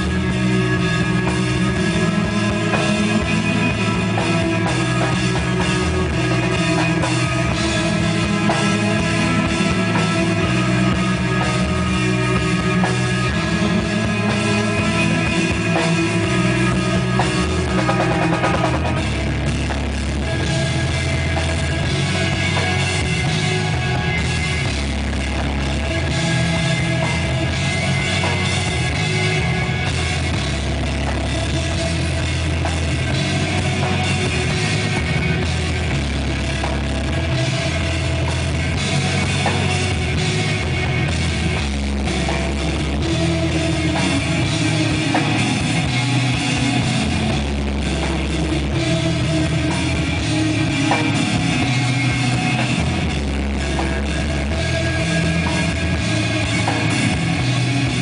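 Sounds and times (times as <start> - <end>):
drum kit with cymbals: 0.0 - 58.0
electric guitar: 0.0 - 58.0.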